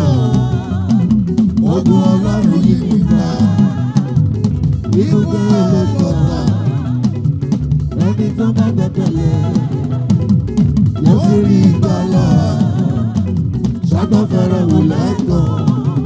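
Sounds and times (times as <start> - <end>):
person singing: 0.0 - 7.4, 8.0 - 10.3, 11.0 - 16.0
bass line: 0.0 - 16.0
drum kit: 0.0 - 16.0
gospel band playing: 0.0 - 16.0.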